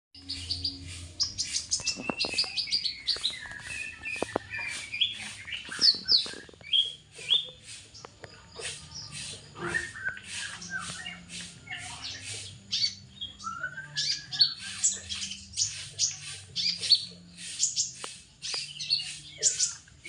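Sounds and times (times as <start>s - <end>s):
bird chirping: 0.2s - 20.0s.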